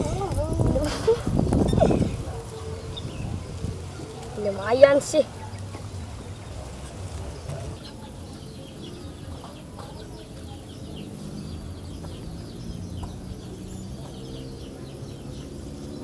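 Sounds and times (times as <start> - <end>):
chicken clucking: 0.0 - 13.2
bird chirps: 0.0 - 16.0.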